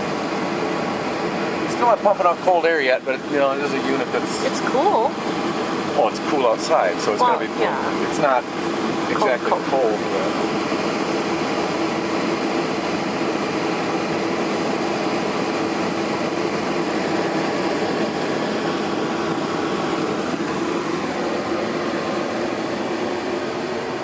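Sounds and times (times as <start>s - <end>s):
air conditioner blower hum: 0.0s - 24.0s.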